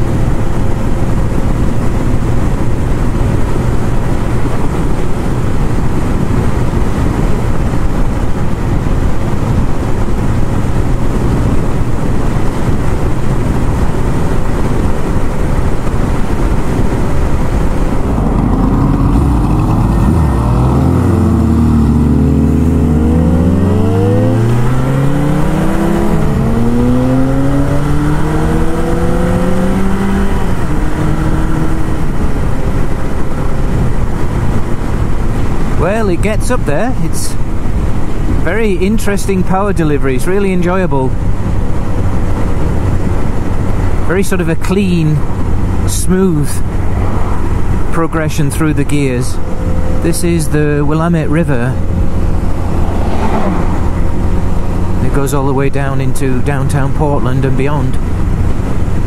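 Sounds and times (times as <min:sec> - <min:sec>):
motorcycle engine: 0:00.0 - 0:59.0
wind noise: 0:00.0 - 0:59.0.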